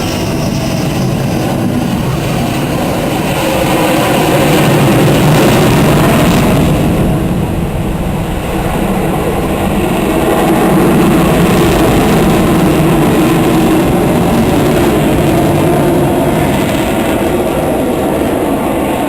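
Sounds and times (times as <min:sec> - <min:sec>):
aircraft engines rumbling overhead: 0:00.0 - 0:19.0.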